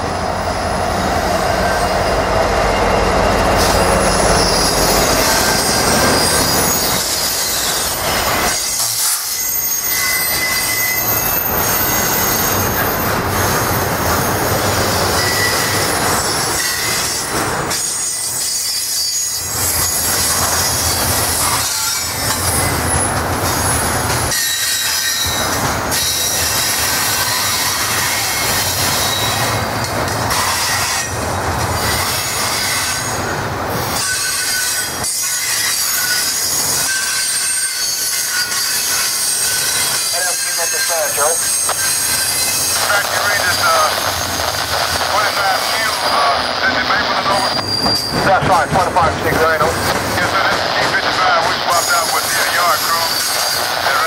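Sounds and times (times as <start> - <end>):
freight train rolling: 0.0 - 54.0
wheels squealing on rails: 0.0 - 54.0.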